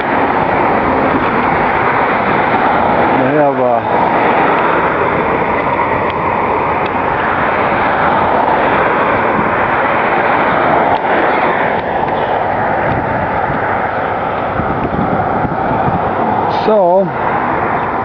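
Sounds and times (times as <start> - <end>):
road traffic rushing: 0.0 - 18.0.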